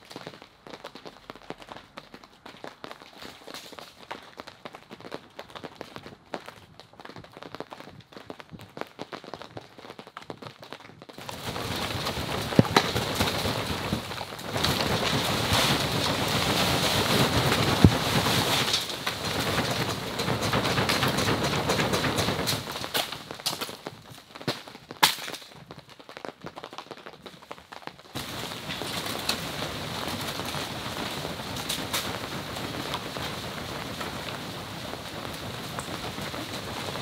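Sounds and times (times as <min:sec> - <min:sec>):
snow sliding down plastic sheeting: 0:00.0 - 0:37.0.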